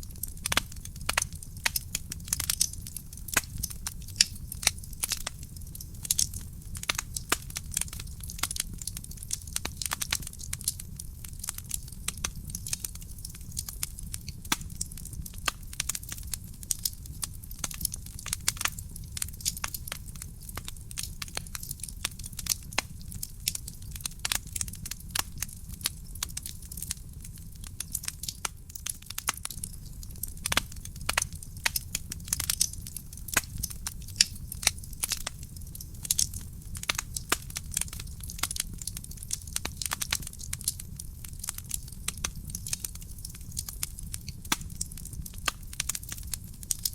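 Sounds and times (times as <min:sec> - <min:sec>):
burning wood popping: 0:00.0 - 0:46.9
wood fire crackling: 0:00.0 - 0:46.9.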